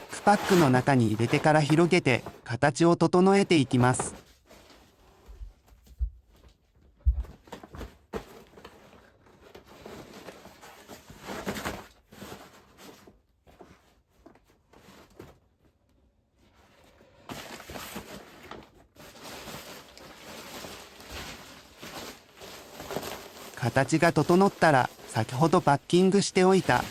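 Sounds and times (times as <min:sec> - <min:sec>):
foam mat and fabric rustling: 0:00.0 - 0:02.5, 0:03.2 - 0:26.9.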